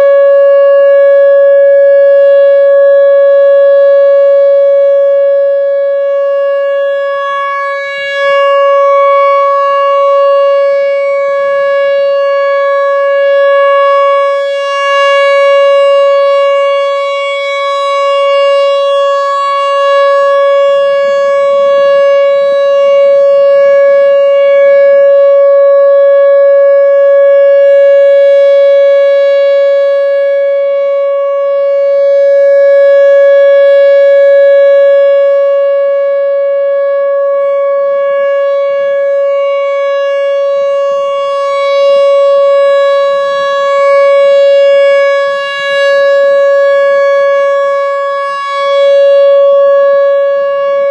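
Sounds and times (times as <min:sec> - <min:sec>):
warning siren steady tone: 0:00.0 - 0:50.9.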